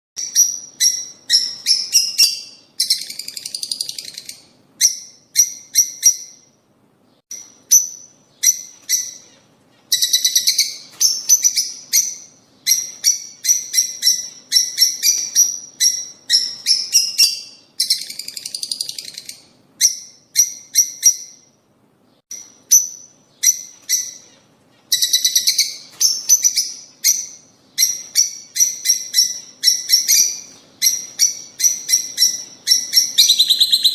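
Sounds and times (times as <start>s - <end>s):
buzzy bird chatter: 0.2s - 6.4s, 7.3s - 19.5s, 22.3s - 33.9s
birds chirping high: 0.2s - 33.9s.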